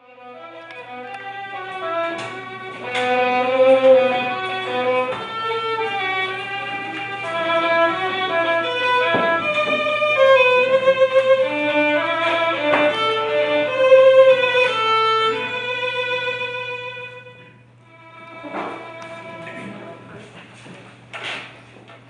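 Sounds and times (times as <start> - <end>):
violin melody: 0.0 - 20.2
low steady hum: 0.0 - 21.2.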